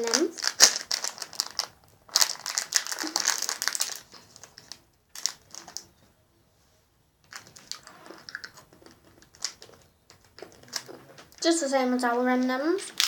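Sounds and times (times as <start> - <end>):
plastic wrapper crinkling: 0.0 - 6.0, 7.2 - 11.5, 12.3 - 13.0
small clicks and rustles: 0.0 - 6.1, 7.2 - 13.0.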